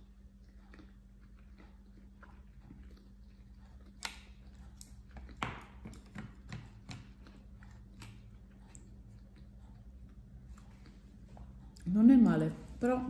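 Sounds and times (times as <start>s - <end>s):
wet chewing mouth clicks: 0.0s - 11.9s.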